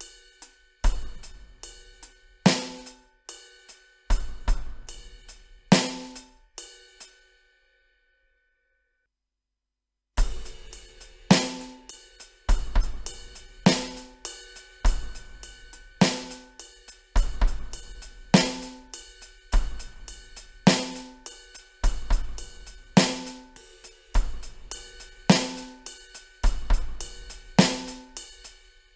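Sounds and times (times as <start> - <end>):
hi-hat pattern: 0.0 - 7.2, 10.2 - 28.9.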